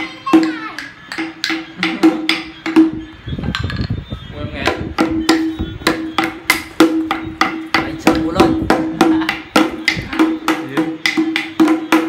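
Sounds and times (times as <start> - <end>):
drum beaten with sticks: 0.0 - 12.0.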